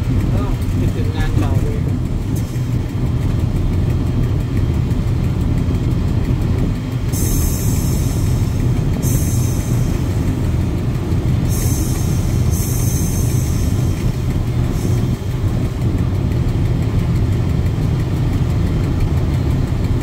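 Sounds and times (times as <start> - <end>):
diesel train rumbling: 0.0 - 20.0.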